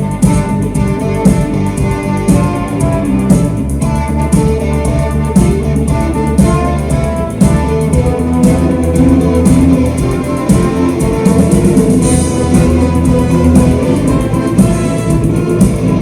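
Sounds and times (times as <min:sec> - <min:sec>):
guitar playing: 0:00.0 - 0:16.0
symphonic rock music: 0:00.0 - 0:16.0
symphony orchestra: 0:00.0 - 0:16.0.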